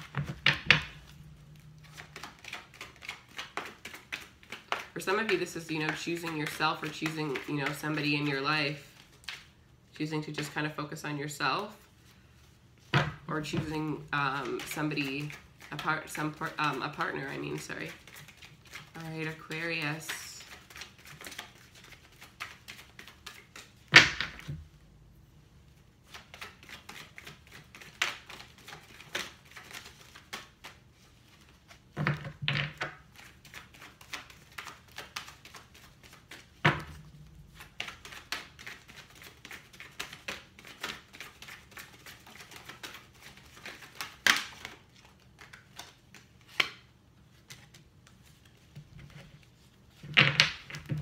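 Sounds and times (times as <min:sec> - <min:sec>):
cards being shuffled: 0:00.0 - 0:11.0, 0:12.8 - 0:24.7, 0:26.0 - 0:51.0.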